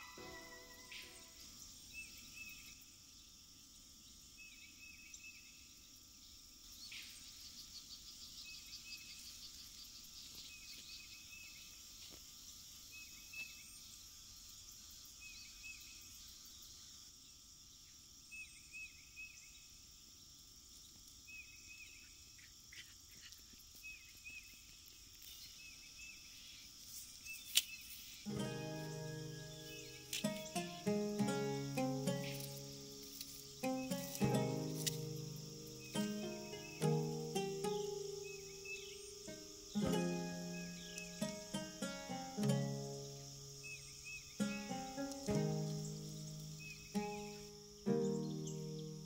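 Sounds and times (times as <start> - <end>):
insect chirps: 0.0 - 49.0
insects droning: 0.0 - 49.0.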